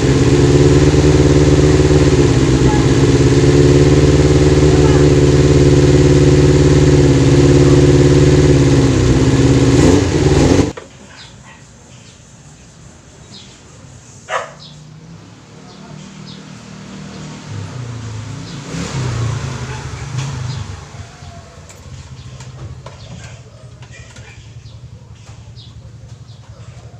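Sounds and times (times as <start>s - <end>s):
motorcycle engine running: 0.0s - 10.8s, 14.9s - 26.9s.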